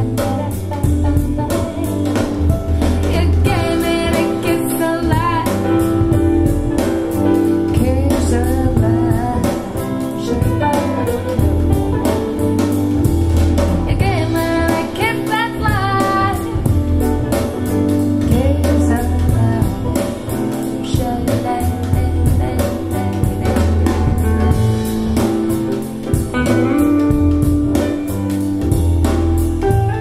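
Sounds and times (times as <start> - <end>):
song with singing over band: 0.0 - 27.1.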